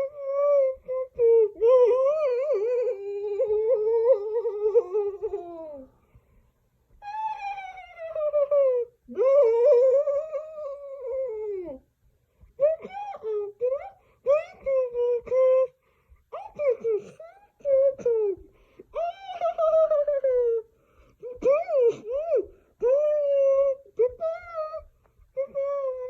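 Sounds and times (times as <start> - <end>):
high wavering wailing voice: 0.0 - 6.0, 7.0 - 11.8, 12.6 - 26.0.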